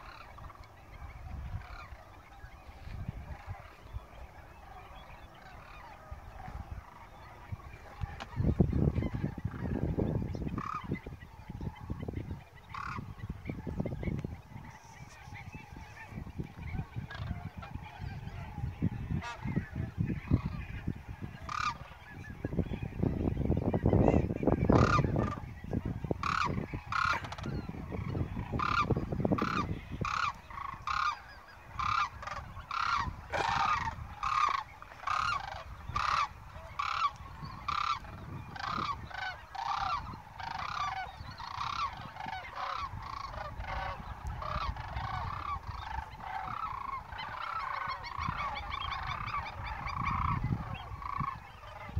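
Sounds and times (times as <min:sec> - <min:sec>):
geese honking: 0:00.0 - 0:51.9.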